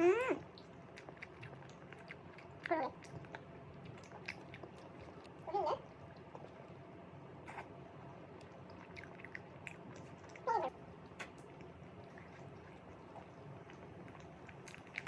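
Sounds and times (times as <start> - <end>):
eating noises: 0.0 - 6.7, 7.4 - 15.0.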